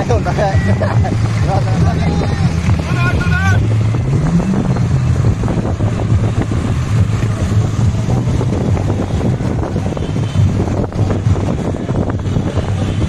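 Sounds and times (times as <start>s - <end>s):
motorcycle engine running: 0.0s - 13.0s
van engine running: 0.0s - 13.0s
wind rumbling on microphone: 0.0s - 13.0s.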